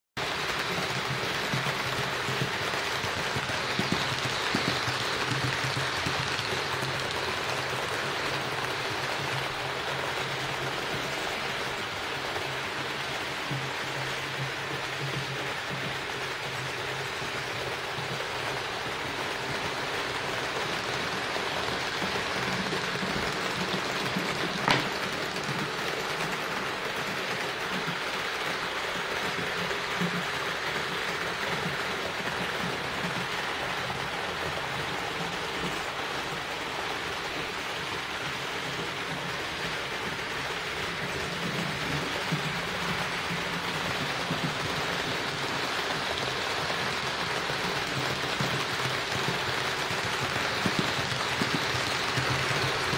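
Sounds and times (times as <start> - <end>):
model train wheels rattling on rails: 0.2 - 52.9.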